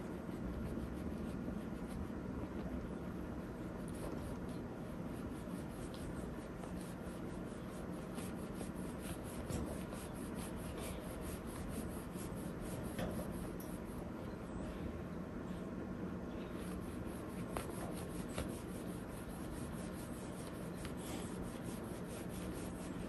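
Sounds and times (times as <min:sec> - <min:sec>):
kitten claws scratching fabric: 0:00.0 - 0:14.0, 0:16.4 - 0:23.0.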